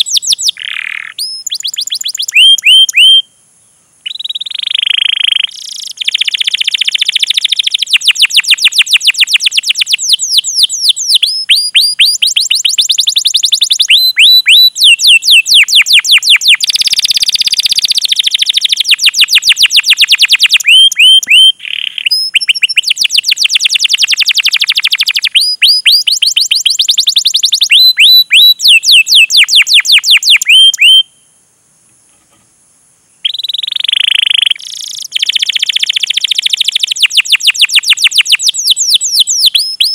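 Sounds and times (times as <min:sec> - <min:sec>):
canary singing: 0:00.0 - 0:03.3, 0:04.0 - 0:31.2, 0:33.2 - 0:39.9.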